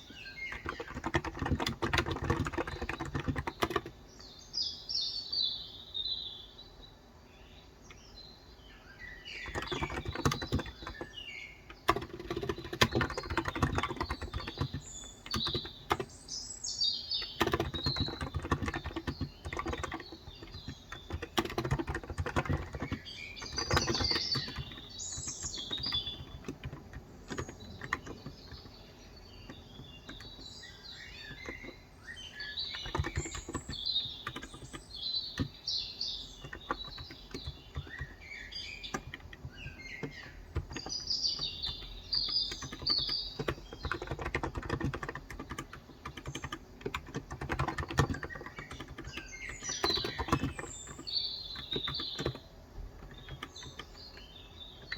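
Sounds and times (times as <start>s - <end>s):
typing on keyboard: 0.0s - 4.3s, 9.3s - 16.3s, 17.1s - 54.9s
small birds chirping: 0.0s - 54.9s.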